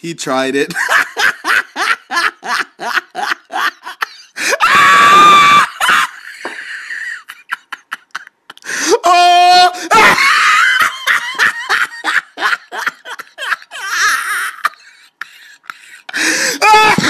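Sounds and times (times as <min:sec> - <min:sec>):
hysterical laughter: 0:00.8 - 0:08.6, 0:09.8 - 0:17.0.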